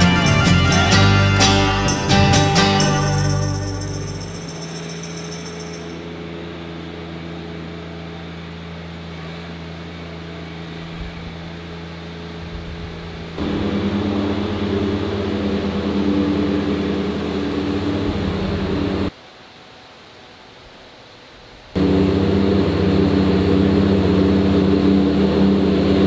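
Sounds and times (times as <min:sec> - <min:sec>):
leaf blower humming: 0:00.0 - 0:19.2, 0:21.3 - 0:26.0
tractor diesel engine: 0:00.0 - 0:19.2, 0:21.8 - 0:26.0.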